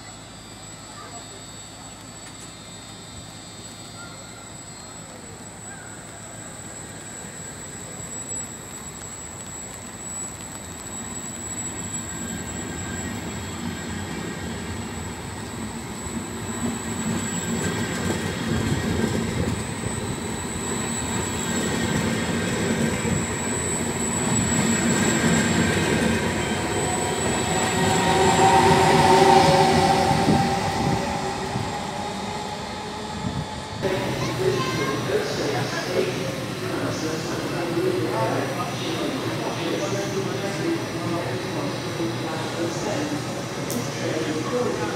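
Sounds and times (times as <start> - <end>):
train wheels rumbling on track: 0.0 - 44.9.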